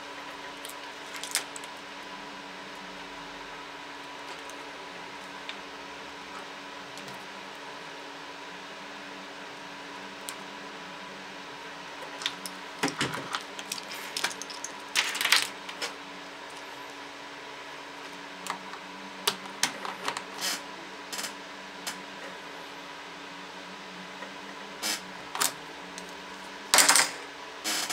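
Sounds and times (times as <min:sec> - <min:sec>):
steady electrical hum: 0:00.0 - 0:27.9.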